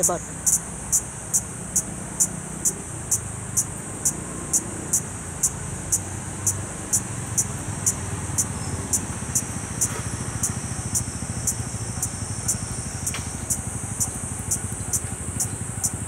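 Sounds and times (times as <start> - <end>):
cicadas shrilling: 0.0 - 16.0.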